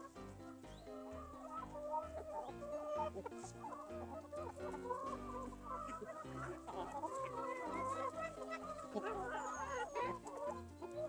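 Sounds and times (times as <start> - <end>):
hens and rooster clucking: 0.0 - 11.0.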